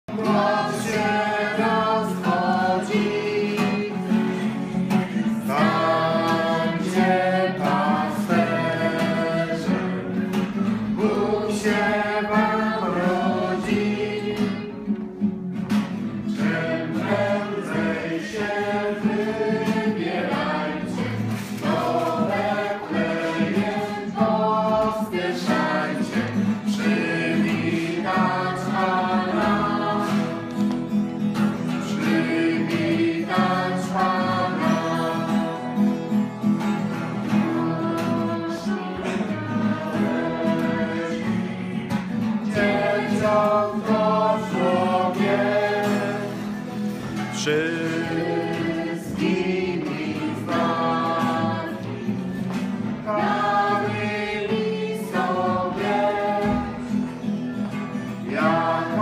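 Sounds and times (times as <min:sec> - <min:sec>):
voices singing carol: 0:00.0 - 0:15.3, 0:15.9 - 0:59.0
acoustic guitar: 0:00.0 - 0:59.0.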